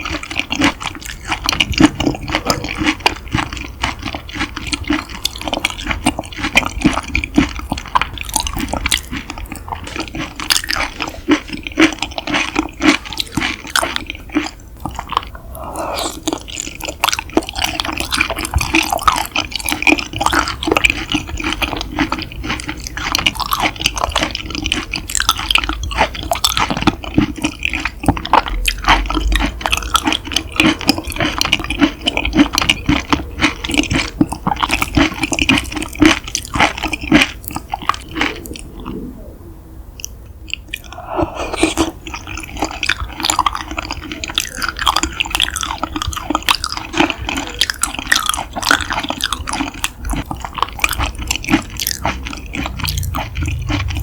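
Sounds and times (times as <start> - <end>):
close chewing with mouth clicks: 0.0 - 39.3, 40.0 - 54.0.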